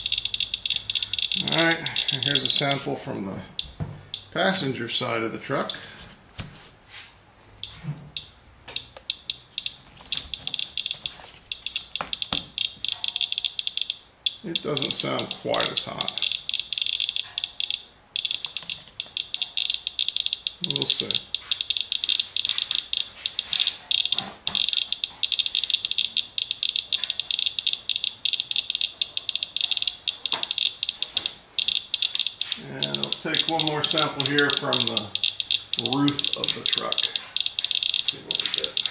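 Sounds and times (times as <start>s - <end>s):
geiger counter chirping: 0.0s - 2.9s, 3.5s - 4.8s, 5.5s - 5.9s, 7.6s - 38.9s.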